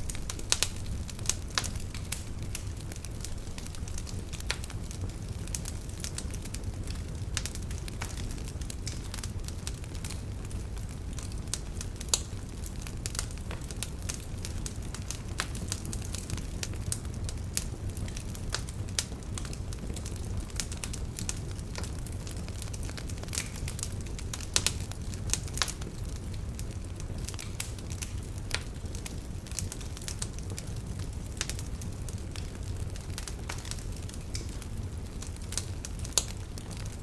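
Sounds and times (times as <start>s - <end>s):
low rumble of flames: 0.0s - 37.0s
wood fire crackling and popping: 0.0s - 37.0s.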